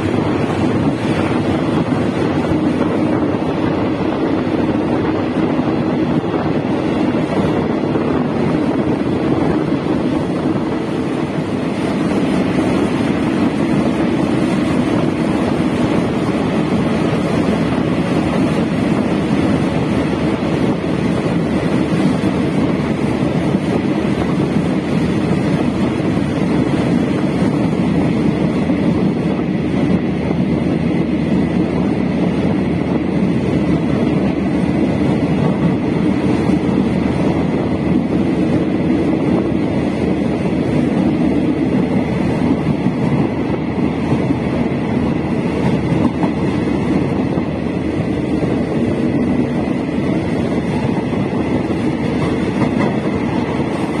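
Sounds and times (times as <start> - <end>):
train wheels rumbling: 0.0 - 54.0
wind through window: 0.0 - 54.0.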